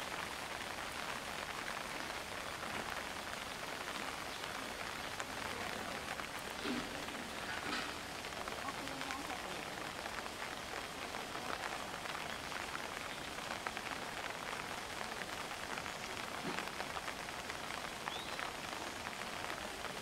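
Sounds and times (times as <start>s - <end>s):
pouring rain: 0.0s - 20.0s.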